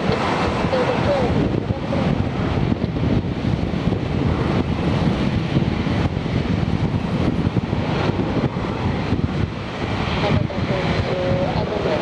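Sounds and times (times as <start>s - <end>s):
distant jet engine rumble: 0.0s - 12.0s
wind on microphone: 0.0s - 12.0s.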